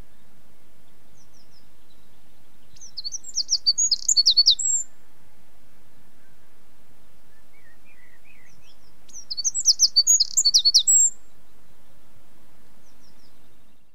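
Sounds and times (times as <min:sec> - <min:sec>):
faint steady hiss: 0:00.0 - 0:13.9
songbird singing: 0:00.0 - 0:13.9.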